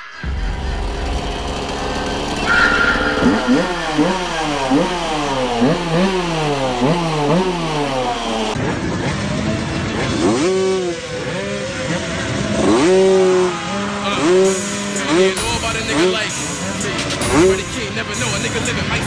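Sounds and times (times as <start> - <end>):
motorcycle engine revving: 0.2 - 17.5.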